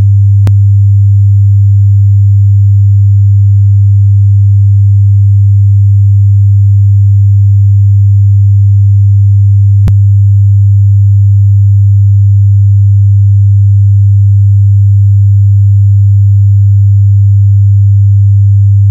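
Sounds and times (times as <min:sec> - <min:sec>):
sine-wave test tone: 0:00.0 - 0:18.9.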